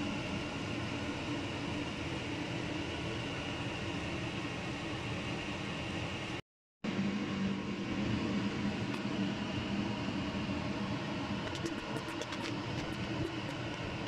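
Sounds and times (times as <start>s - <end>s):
droning hum with hiss: 0.0s - 14.0s.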